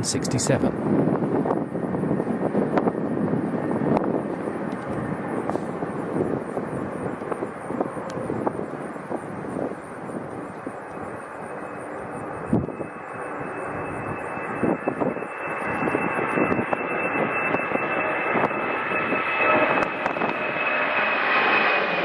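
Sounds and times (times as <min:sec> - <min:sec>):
high steady engine whine: 0:00.0 - 0:22.0
jet engines rumbling: 0:00.0 - 0:22.0.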